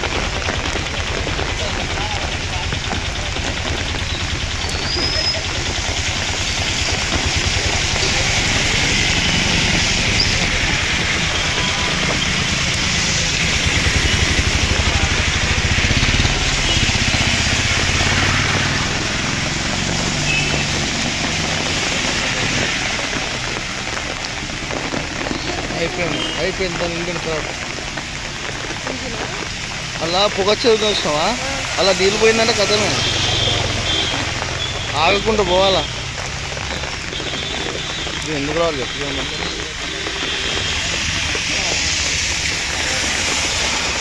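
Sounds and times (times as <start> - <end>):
rain and water hissing: 0.0 - 44.0
vehicle engines rumbling: 0.0 - 44.0.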